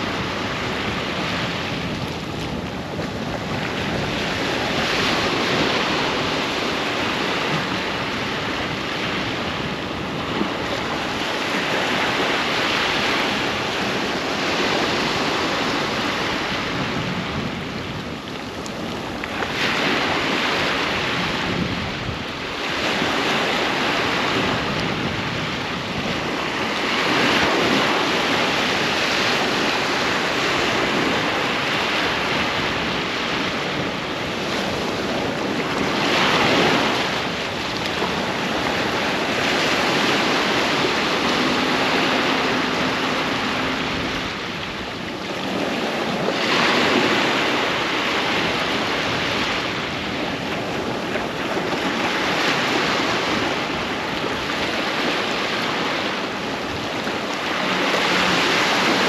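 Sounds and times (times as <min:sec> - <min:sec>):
ocean waves breaking on beach: 0:00.0 - 0:59.0
wind buffeting microphone: 0:00.0 - 0:59.0.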